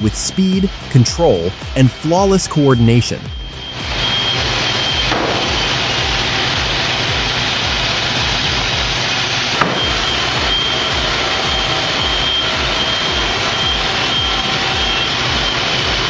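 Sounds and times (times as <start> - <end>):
heavy machinery running: 0.0 - 16.0.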